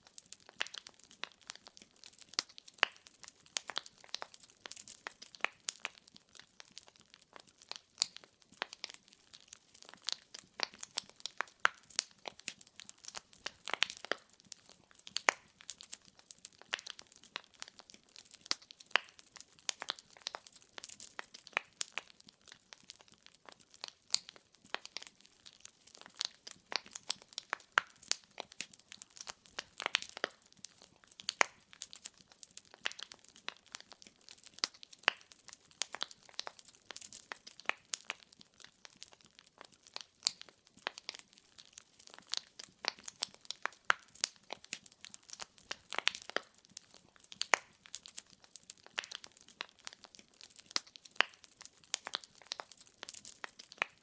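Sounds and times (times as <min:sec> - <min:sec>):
logs crackling and popping in fire: 0:00.0 - 0:54.0.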